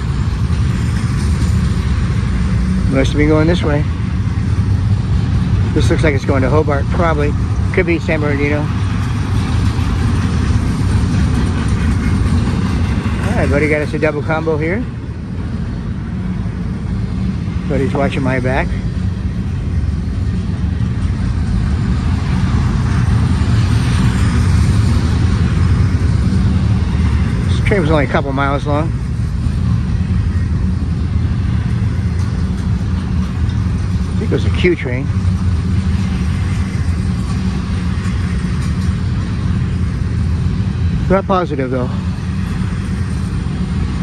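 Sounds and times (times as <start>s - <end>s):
locomotive engine drone: 0.0s - 44.0s
train rolling noise: 0.0s - 44.0s.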